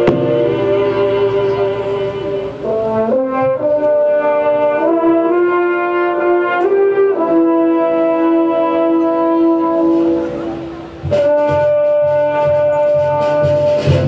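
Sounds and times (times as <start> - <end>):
orchestra playing sustained chords: 0.0 - 14.0.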